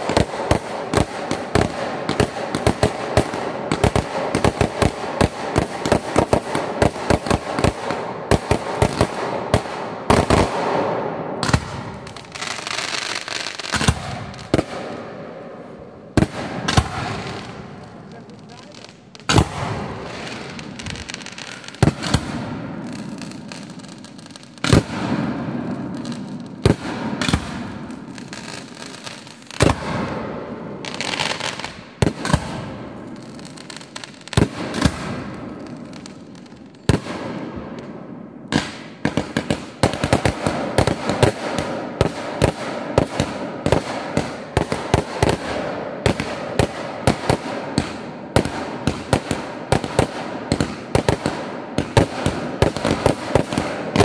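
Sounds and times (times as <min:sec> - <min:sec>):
fireworks bangs with fizzing hiss: 0:00.0 - 0:54.0.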